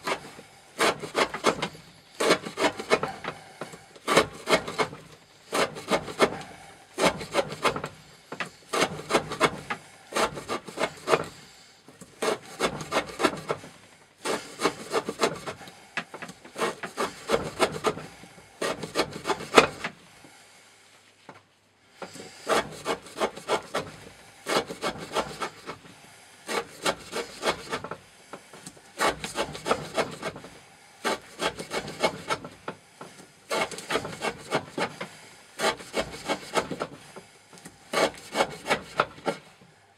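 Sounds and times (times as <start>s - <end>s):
knife sawing through rope: 0.0s - 20.6s, 21.9s - 39.6s.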